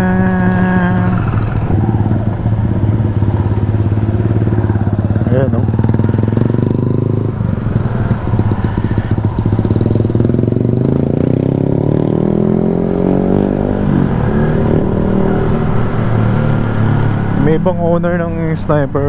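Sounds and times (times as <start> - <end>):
motorcycle engine accelerating: 0.0 - 18.5.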